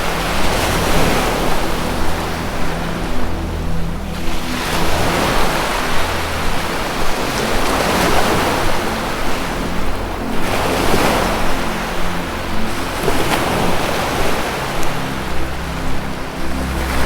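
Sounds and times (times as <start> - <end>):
low musical drone: 0.0 - 17.0
ocean surf washing: 0.0 - 17.0.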